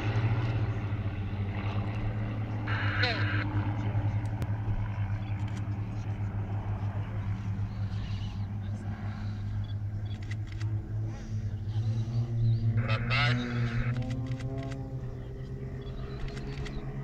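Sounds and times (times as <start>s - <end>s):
propeller plane engine drone: 0.0s - 17.0s.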